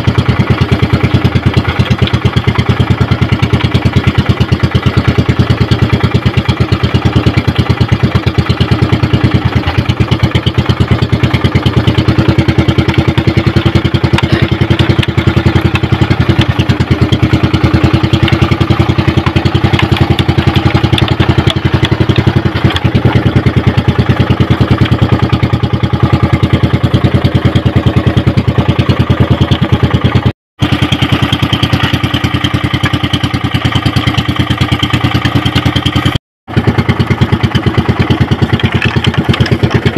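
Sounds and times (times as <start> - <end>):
small boat engine chugging: 0.0 - 39.9.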